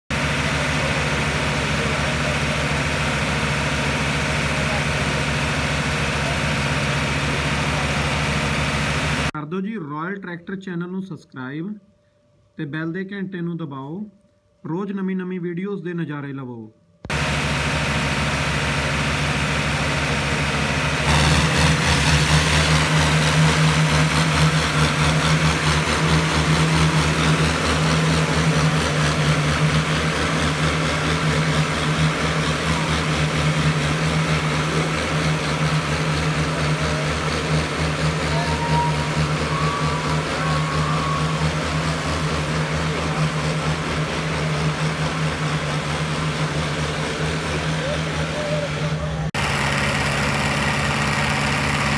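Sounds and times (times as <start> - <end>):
tractor diesel engine at high revs: 0.0 - 9.4, 17.1 - 51.9.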